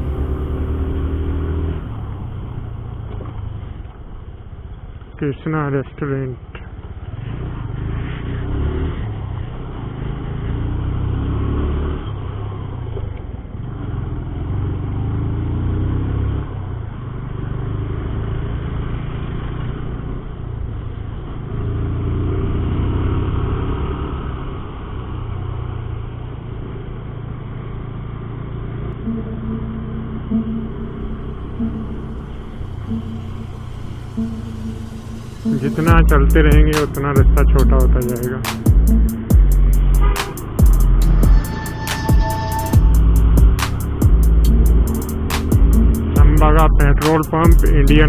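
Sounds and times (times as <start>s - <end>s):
motorcycle engine: 0.0s - 48.0s
road rumble: 0.0s - 48.0s.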